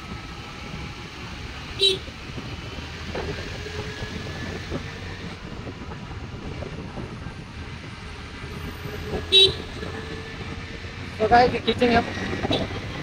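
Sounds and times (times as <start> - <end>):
scooter road and wind noise: 0.0 - 13.0.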